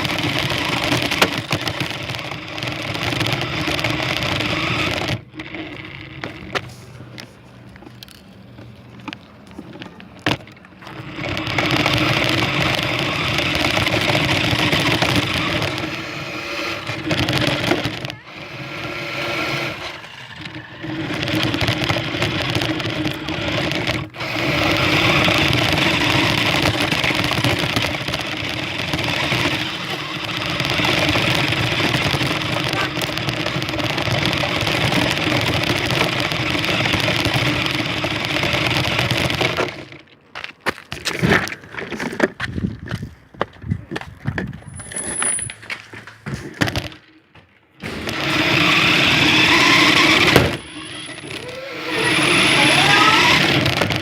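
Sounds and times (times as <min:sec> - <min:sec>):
toy car motor whirring: 0:00.0 - 0:08.2, 0:10.2 - 0:40.0, 0:47.8 - 0:54.0.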